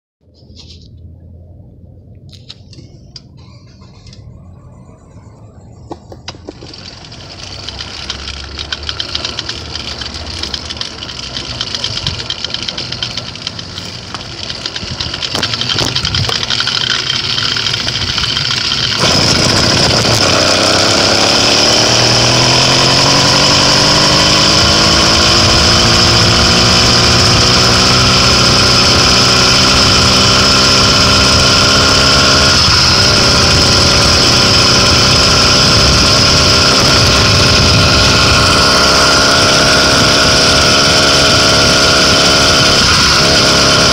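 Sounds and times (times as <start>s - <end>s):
small bicycle engine revving: 6.2s - 43.9s.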